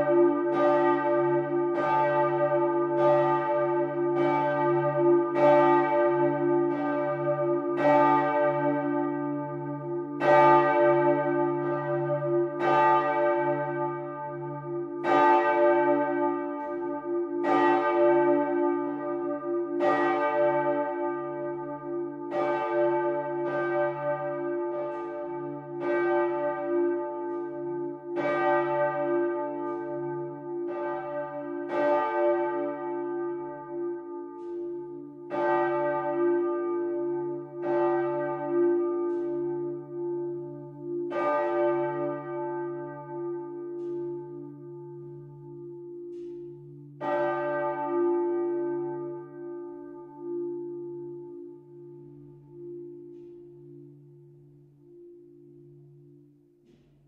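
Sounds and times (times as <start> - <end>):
church bell clanging: 0.0 - 57.0.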